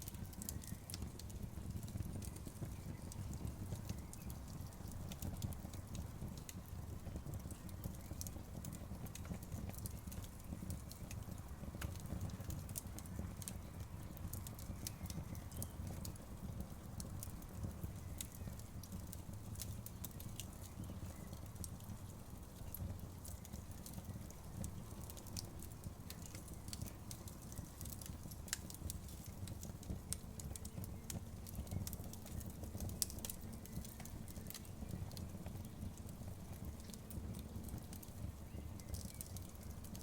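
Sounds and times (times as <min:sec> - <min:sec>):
bonfire crackling and popping: 0:00.0 - 0:40.0
low rumble of burning fire: 0:00.0 - 0:40.0.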